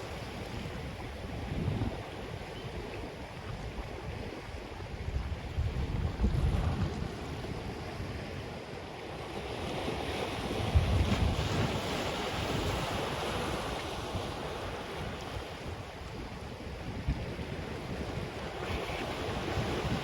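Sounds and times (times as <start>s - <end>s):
ocean waves breaking on sand: 0.0s - 20.0s
wind buffeting microphone: 0.0s - 20.0s.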